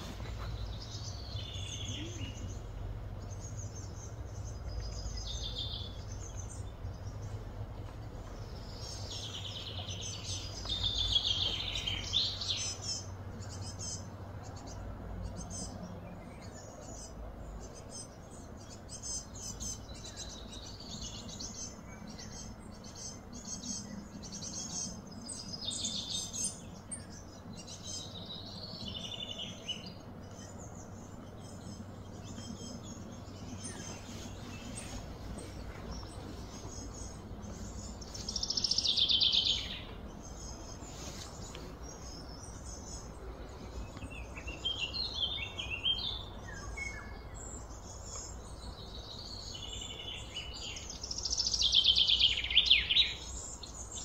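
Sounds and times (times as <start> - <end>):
birds chirping and calling: 0.0 - 54.0
low background hum: 0.0 - 54.0.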